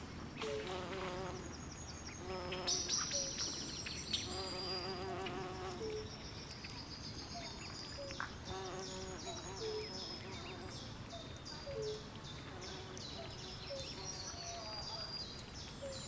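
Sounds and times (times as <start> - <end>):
low steady hiss: 0.0 - 16.0
insects buzzing and trilling: 0.4 - 6.2, 7.4 - 16.0.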